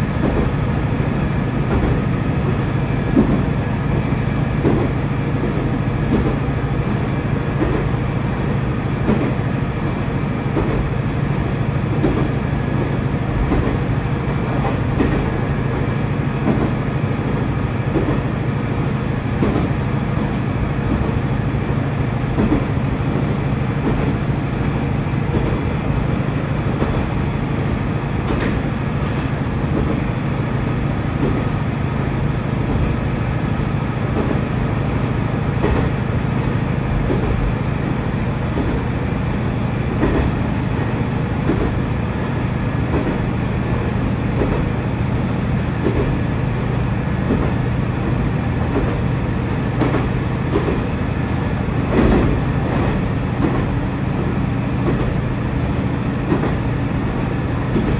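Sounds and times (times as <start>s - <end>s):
diesel railcar engine drone: 0.0s - 57.9s.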